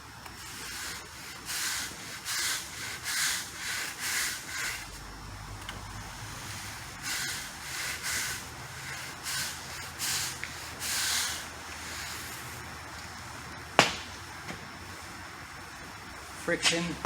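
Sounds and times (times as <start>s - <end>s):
vacuum sucking up liquid: 0.0s - 16.3s.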